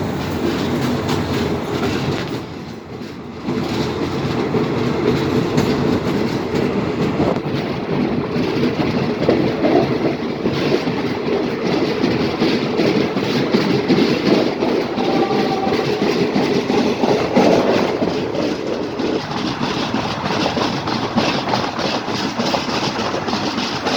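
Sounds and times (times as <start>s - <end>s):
train wheels clattering over rails: 0.0s - 23.9s.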